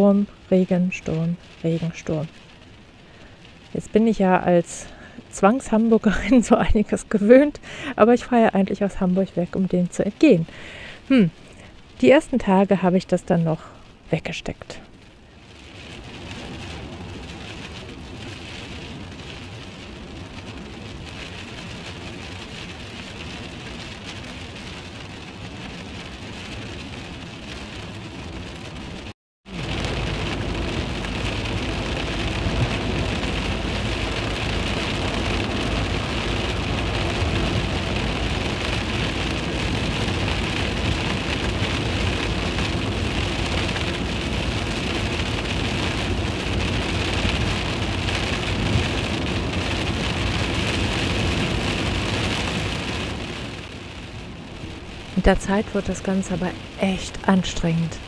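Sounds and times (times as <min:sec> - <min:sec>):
low road rumble: 0:00.0 - 0:58.0
rain and tyre spray hiss: 0:00.0 - 0:58.0.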